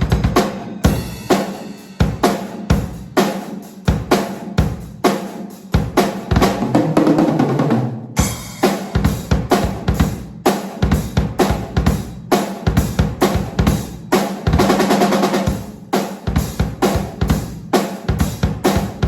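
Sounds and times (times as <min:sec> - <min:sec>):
drum kit playing a beat: 0:00.0 - 0:19.0.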